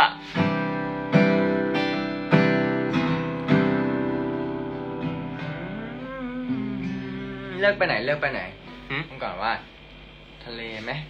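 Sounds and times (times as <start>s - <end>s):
acoustic guitar chord strokes: 0.0s - 9.8s.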